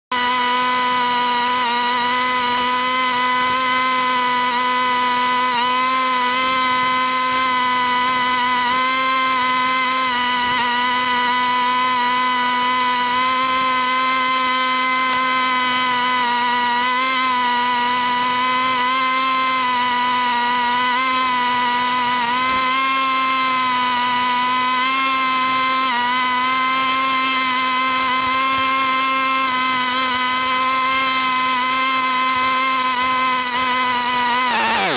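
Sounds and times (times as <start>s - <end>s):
lawn mower running: 0.1s - 34.9s.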